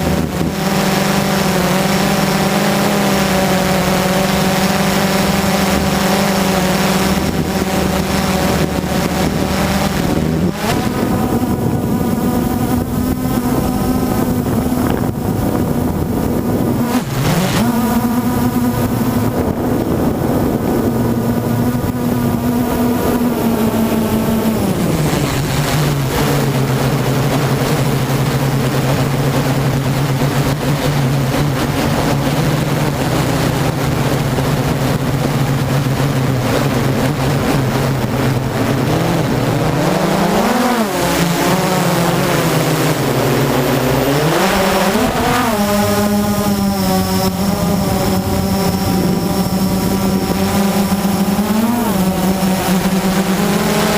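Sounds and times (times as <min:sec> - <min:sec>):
drone propellers buzzing: 0:00.0 - 0:53.9
rushing noise: 0:00.0 - 0:53.9.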